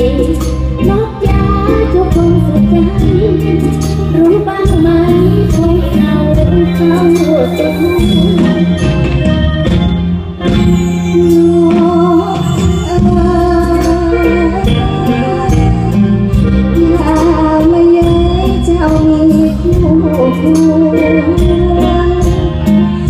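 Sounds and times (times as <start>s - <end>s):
woman singing into microphone: 0.0s - 9.0s, 11.0s - 23.0s
live band through stage speakers: 0.0s - 23.0s.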